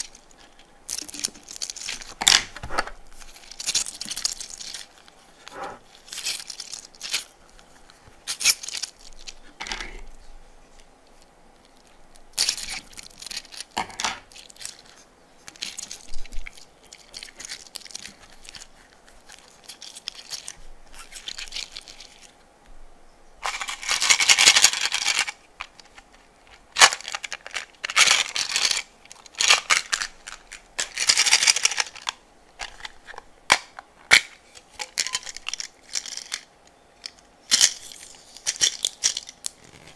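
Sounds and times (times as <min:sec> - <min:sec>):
crackly rustling slime: 0:00.0 - 0:22.4, 0:23.4 - 0:39.9.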